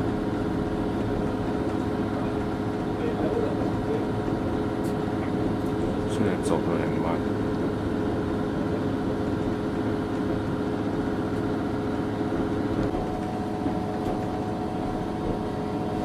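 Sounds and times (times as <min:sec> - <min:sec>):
railcar engine drone: 0:00.0 - 0:16.0.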